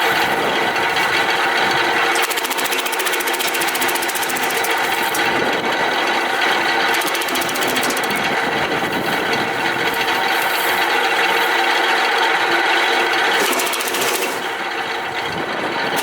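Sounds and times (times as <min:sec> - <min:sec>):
wood chipper clattering: 0:00.0 - 0:16.0.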